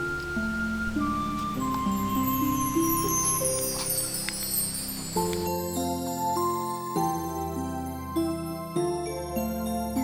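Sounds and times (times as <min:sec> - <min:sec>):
gentle slow melody: 0:00.0 - 0:10.0.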